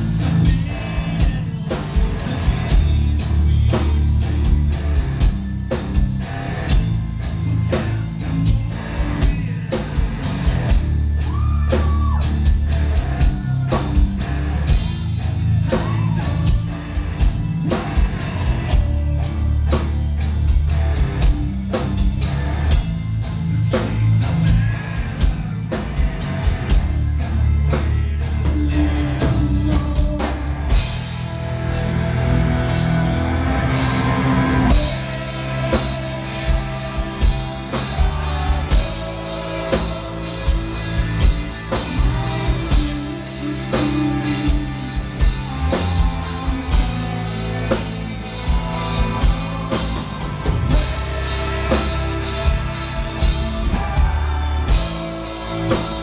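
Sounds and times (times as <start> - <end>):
metal band playing live: 0.0 - 56.0.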